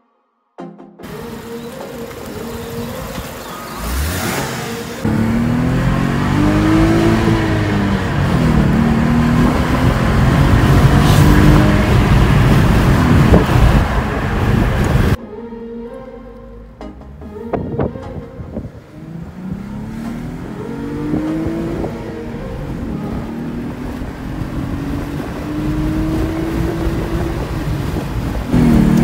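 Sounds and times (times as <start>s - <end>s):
car engine accelerating: 1.0s - 29.0s.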